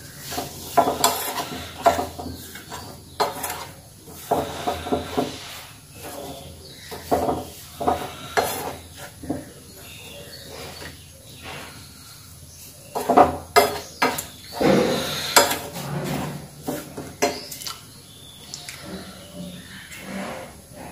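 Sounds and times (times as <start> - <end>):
spoon scraping a frying pan: 0.0 - 11.9, 12.6 - 17.7.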